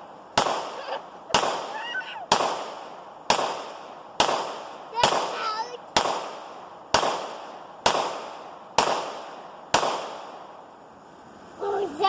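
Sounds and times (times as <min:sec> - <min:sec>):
pistol shots with echo: 0:00.4 - 0:10.4.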